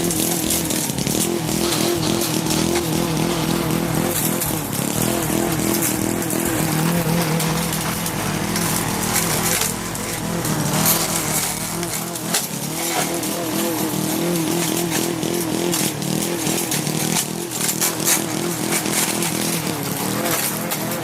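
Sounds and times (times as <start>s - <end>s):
branches being chopped: 0.0s - 21.0s
lawn mower engine running: 0.0s - 21.0s.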